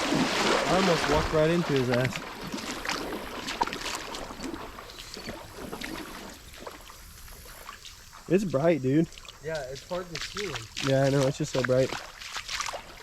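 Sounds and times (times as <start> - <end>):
footsteps splashing through water: 0.0 - 13.0.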